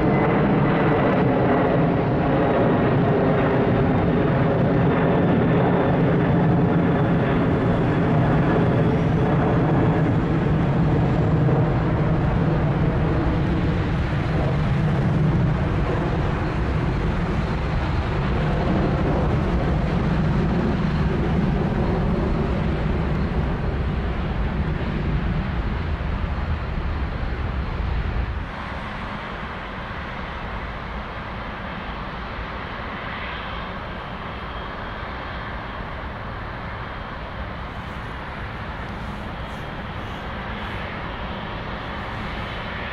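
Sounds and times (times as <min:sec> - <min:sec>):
distant jet engine noise: 0:00.0 - 0:42.9
jet engines rumbling overhead: 0:00.0 - 0:42.9.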